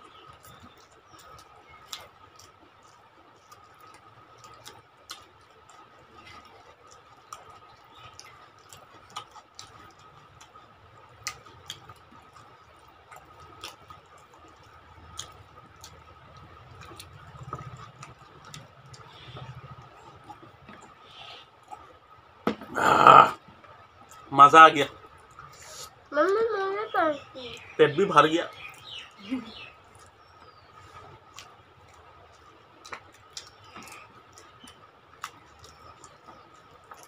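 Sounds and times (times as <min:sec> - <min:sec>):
chewing and eating by hand: 0:00.0 - 0:24.3, 0:28.5 - 0:37.0.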